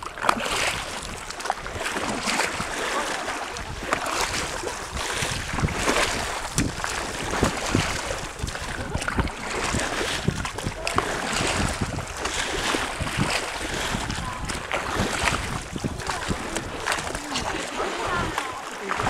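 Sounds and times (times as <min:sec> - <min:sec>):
water slapping boat hull: 0:00.0 - 0:19.0
wind rumbling on microphone: 0:00.0 - 0:19.0.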